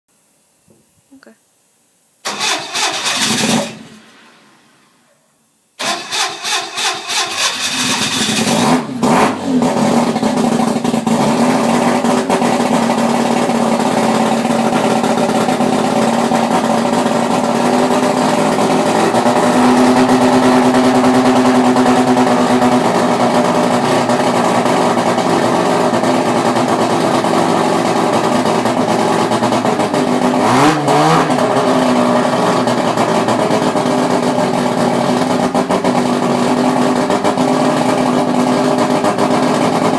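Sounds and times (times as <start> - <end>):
rotary engine idling and revving: 3.0 - 4.0, 5.9 - 39.9.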